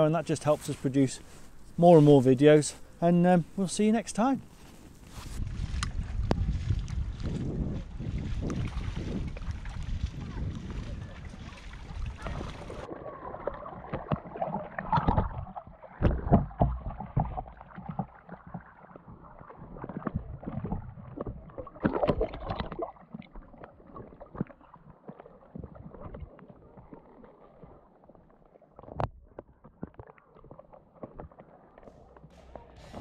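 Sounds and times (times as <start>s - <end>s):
underwater river sloshing and gurgling: 4.7s - 33.0s.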